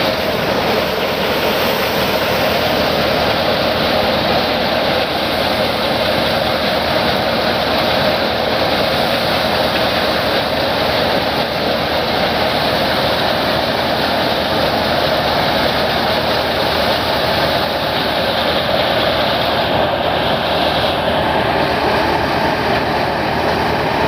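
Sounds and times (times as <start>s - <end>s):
threshing machine running: 0.0s - 24.0s.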